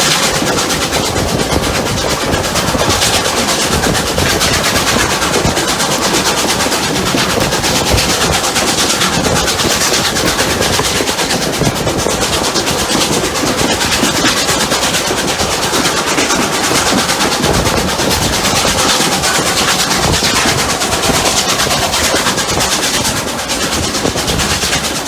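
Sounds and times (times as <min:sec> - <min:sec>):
rush of steam and train noise: 0:00.0 - 0:25.0
steam locomotive exhaust beat: 0:00.0 - 0:25.0.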